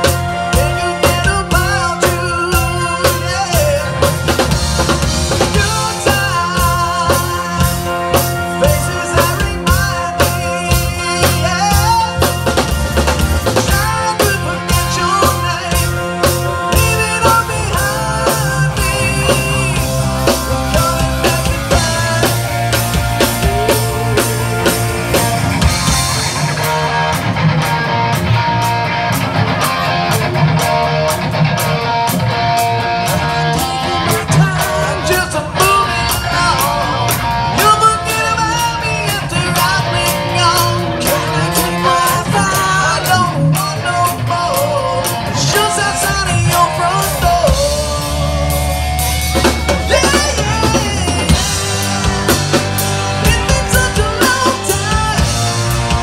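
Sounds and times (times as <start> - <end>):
person singing: 0.0 - 4.4, 5.4 - 12.8, 13.4 - 26.8, 32.8 - 56.0
drum kit: 0.0 - 56.0
electric guitar: 0.0 - 56.0.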